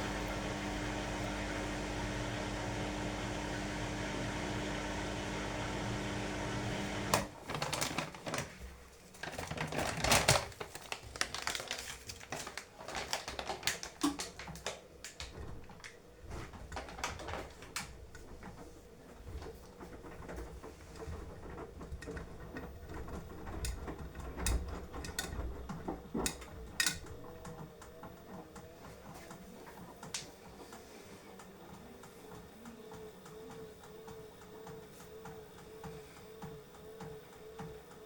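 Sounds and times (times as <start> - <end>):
washing machine running: 0.0 - 38.0.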